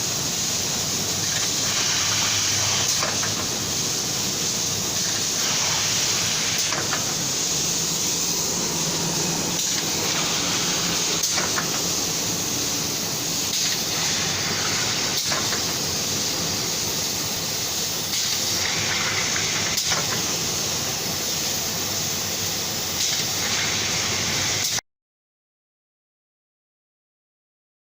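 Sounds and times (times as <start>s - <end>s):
hot-air blower hiss: 0.0s - 24.8s.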